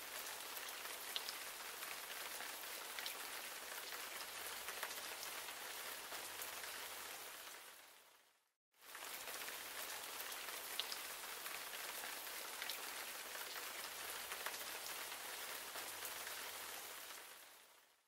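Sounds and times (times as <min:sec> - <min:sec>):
rain-like hiss: 0:00.0 - 0:18.0.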